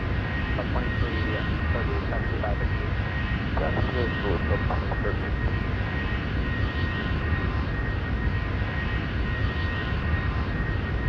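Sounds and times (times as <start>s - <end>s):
high-pitched engine whine: 0.0s - 11.0s
jet engines running: 0.0s - 11.0s.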